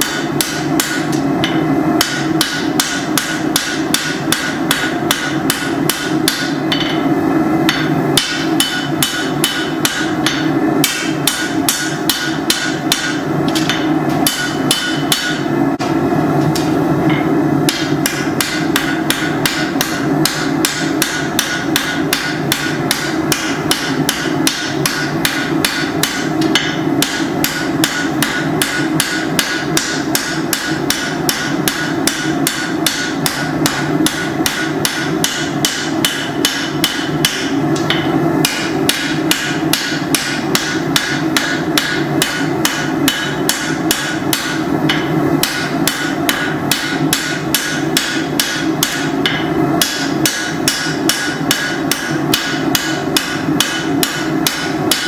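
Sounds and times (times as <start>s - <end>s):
hammer striking steel on anvil: 0.0s - 55.0s.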